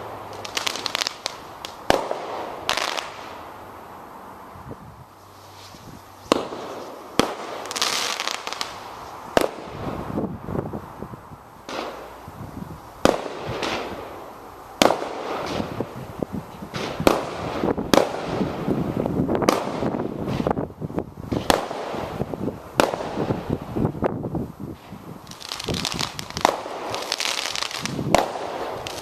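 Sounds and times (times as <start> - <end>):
fireworks bangs: 0.0 - 3.5, 5.6 - 10.6, 11.6 - 12.2, 13.0 - 24.0, 24.7 - 29.0
fireworks crackling: 0.0 - 29.0.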